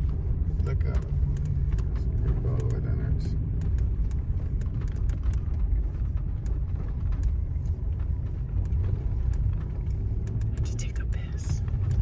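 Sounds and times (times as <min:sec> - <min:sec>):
vehicle engine and road noise: 0:00.0 - 0:12.0
small ticks and knocks: 0:00.8 - 0:12.0.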